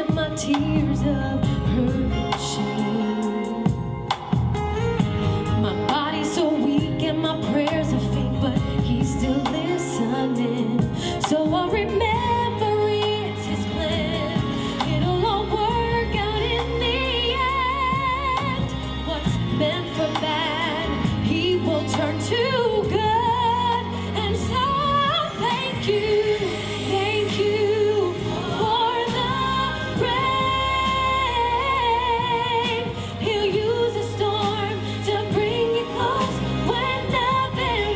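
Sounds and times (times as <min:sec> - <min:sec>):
woman singing with vibrato: 0:00.0 - 0:04.2, 0:05.5 - 0:37.9
backing track with steady bass: 0:00.0 - 0:37.9.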